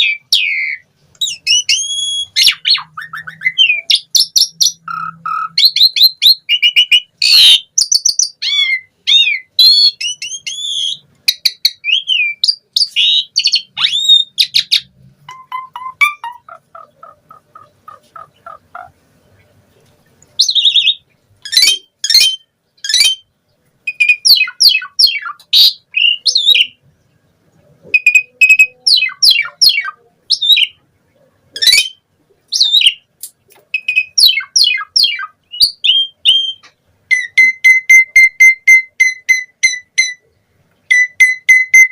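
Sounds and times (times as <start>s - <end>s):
starling singing: 0.0s - 19.6s, 20.4s - 26.9s, 27.8s - 30.8s, 31.5s - 33.1s, 33.7s - 41.9s.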